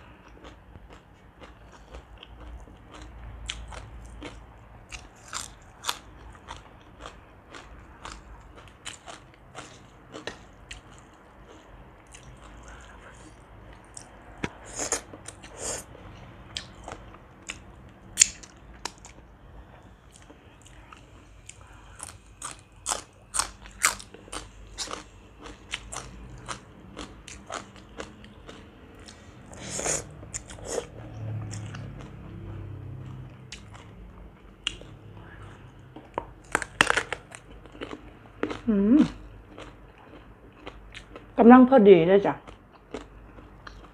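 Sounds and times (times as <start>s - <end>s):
crunchy chewing: 0.0s - 19.2s, 19.8s - 41.3s, 42.4s - 43.9s.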